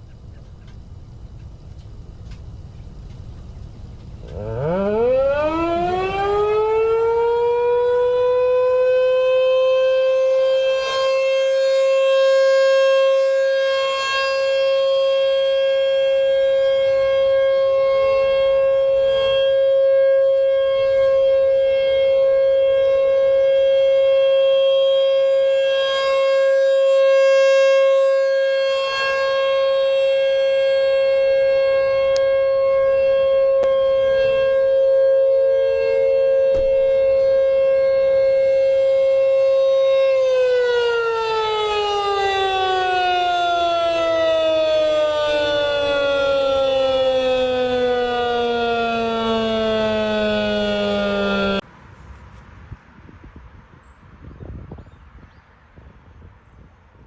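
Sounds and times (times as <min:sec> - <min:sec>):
tornado warning siren: 0:00.0 - 0:51.7
second lower siren tone: 0:04.2 - 0:51.6.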